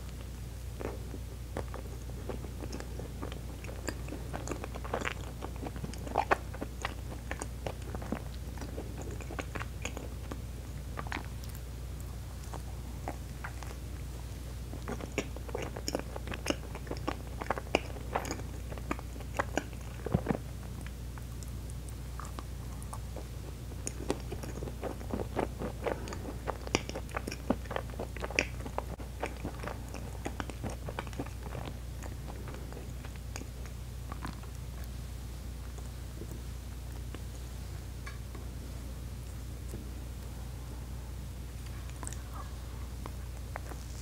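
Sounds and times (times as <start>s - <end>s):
wet chewing and mouth clicks: 0.0s - 35.0s, 41.6s - 44.0s.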